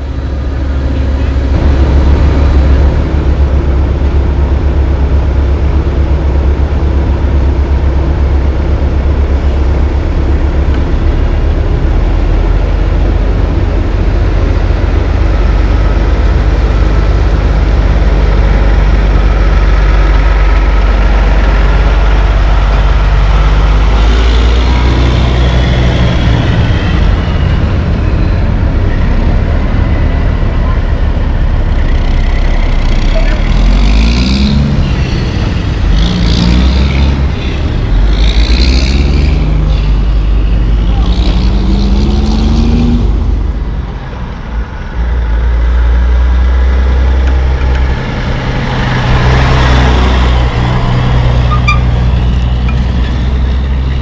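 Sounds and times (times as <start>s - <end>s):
diesel truck engine rumbling: 0.0s - 54.0s
engine whine: 0.0s - 54.0s.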